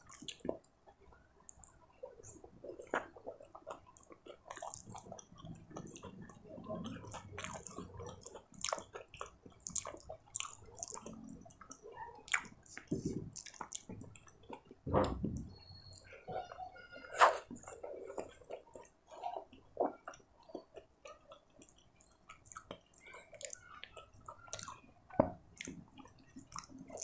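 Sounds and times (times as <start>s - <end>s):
wet chewing: 0.0s - 16.2s, 17.0s - 27.0s.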